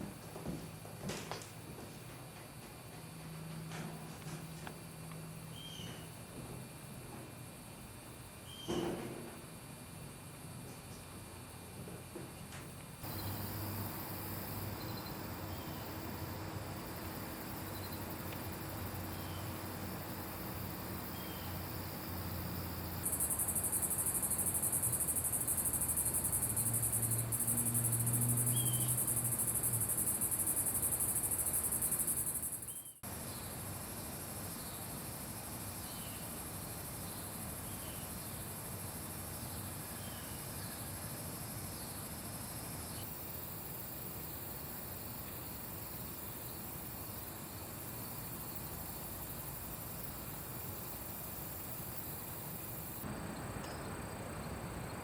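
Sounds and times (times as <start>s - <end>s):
insects chirring: 2.8s - 11.8s, 12.7s - 55.0s.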